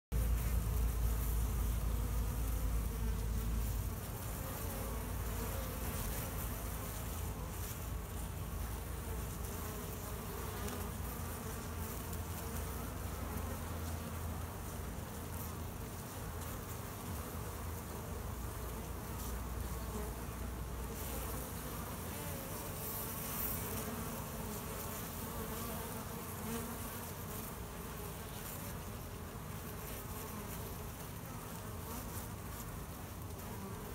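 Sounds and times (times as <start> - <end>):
honeybees buzzing: 0.1 - 33.9.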